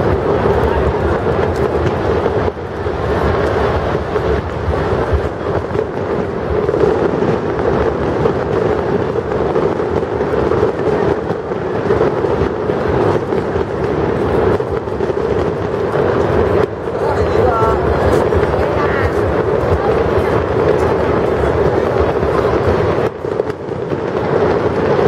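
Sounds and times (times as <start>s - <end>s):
large crowd din: 0.0s - 25.0s.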